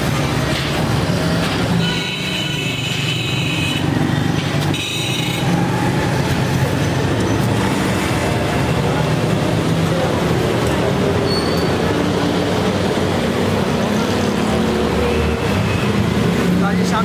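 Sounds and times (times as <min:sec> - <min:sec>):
street traffic engines: 0:00.0 - 0:17.0.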